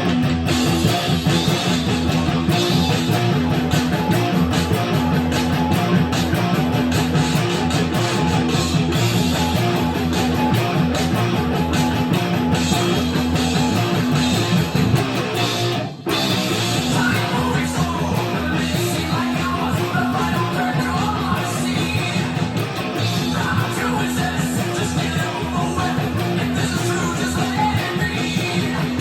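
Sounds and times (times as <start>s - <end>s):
electric guitar rock riff: 0.0s - 29.0s.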